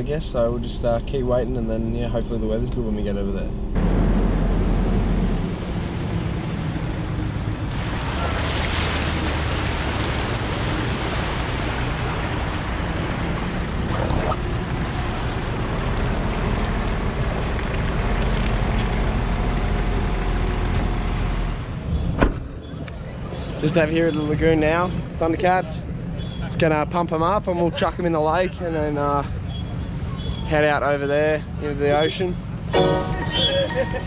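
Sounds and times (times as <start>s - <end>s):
vehicle engine and tyre noise: 0.0s - 30.6s.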